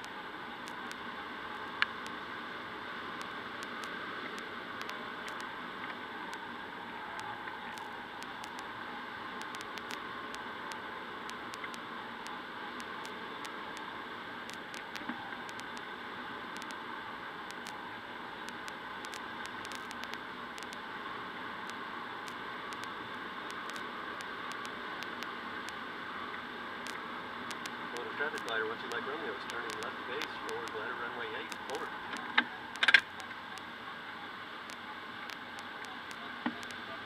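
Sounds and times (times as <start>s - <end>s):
faint ticks: 0.0s - 2.2s, 3.2s - 8.7s, 9.4s - 15.9s, 16.5s - 16.8s, 17.4s - 17.8s, 18.4s - 20.9s, 21.6s - 33.7s, 34.6s - 37.0s.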